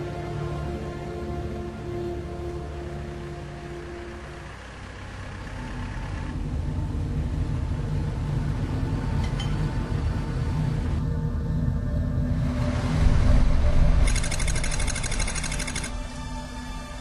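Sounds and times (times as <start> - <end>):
dark ambient drone music: 0.0 - 17.0.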